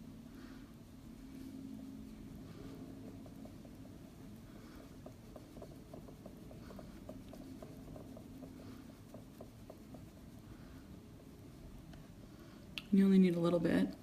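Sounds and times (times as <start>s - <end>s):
makeup brush rubbing swishes: 0.0s - 14.0s.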